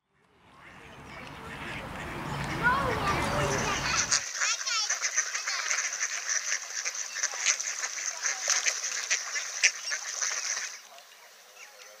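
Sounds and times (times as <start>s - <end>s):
ducks quacking: 0.5s - 12.0s.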